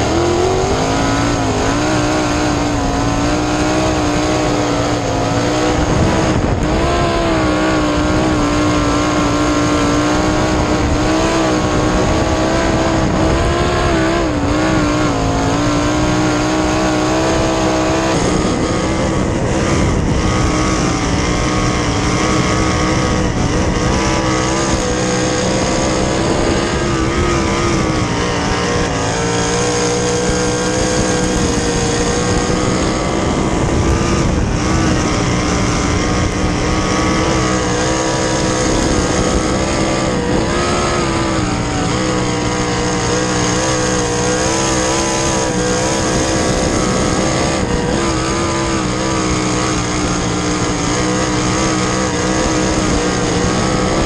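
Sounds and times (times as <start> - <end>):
racing car engine: 0.0 - 54.0.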